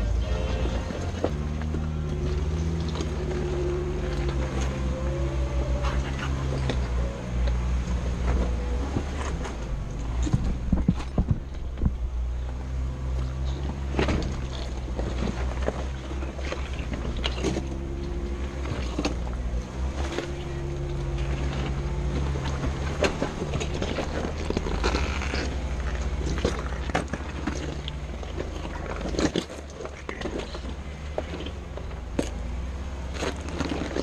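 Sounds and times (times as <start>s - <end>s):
engine running at low revs: 0.0s - 34.0s.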